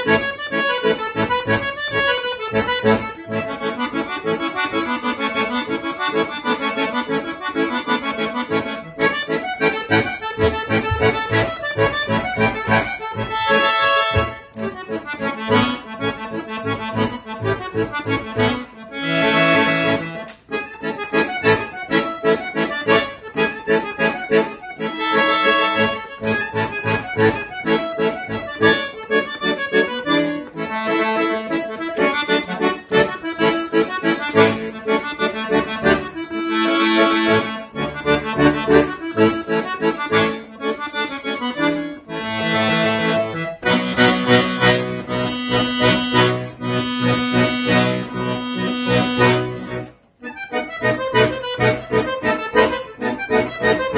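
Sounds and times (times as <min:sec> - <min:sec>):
solo accordion: 0:00.0 - 0:53.9.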